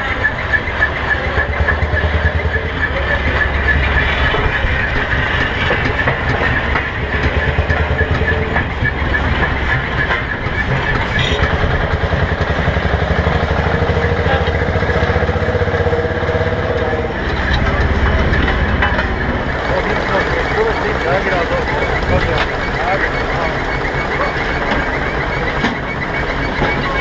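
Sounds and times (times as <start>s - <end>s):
road roller engine running: 0.0s - 27.0s.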